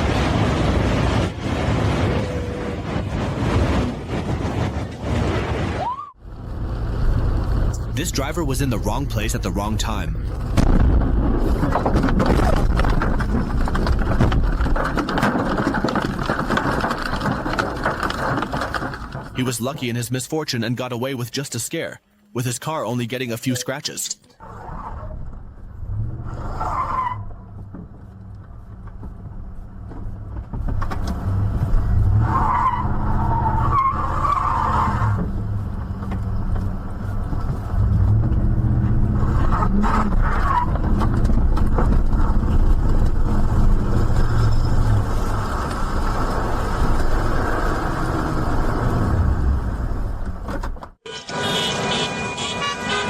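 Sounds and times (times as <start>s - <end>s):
car engine and tyre rumble: 0.0s - 19.8s, 24.4s - 53.0s.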